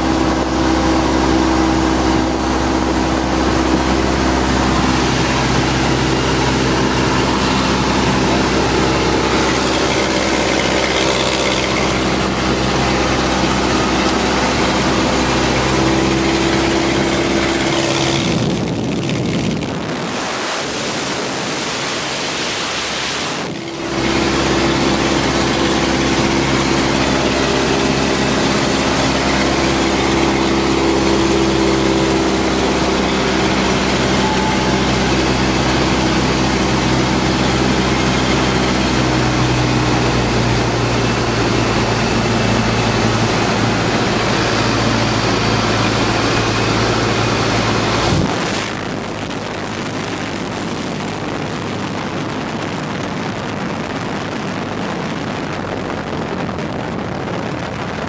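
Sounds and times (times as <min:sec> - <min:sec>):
air rushing past: 0:00.0 - 0:58.0
propeller plane engine droning: 0:00.0 - 0:58.0.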